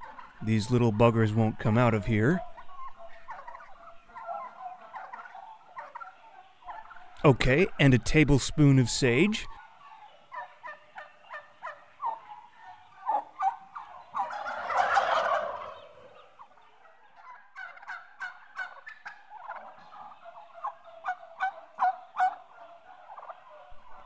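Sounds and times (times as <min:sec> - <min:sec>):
turkey gobbling: 0:00.0 - 0:24.0.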